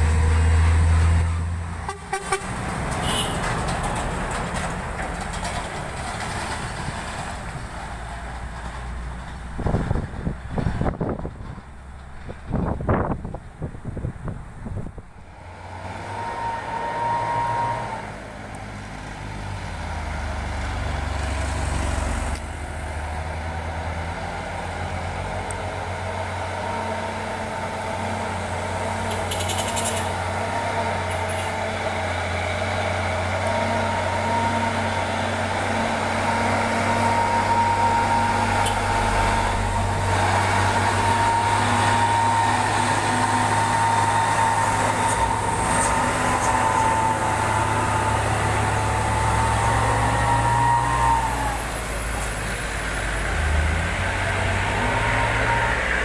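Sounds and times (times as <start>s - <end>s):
diesel trucks climbing under load: 0.0s - 56.0s.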